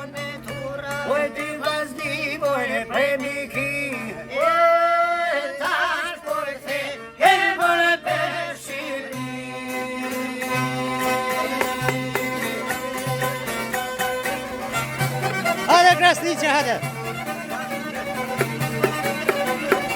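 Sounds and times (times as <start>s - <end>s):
person singing ornamented folk song: 0.0s - 14.4s, 15.6s - 19.9s.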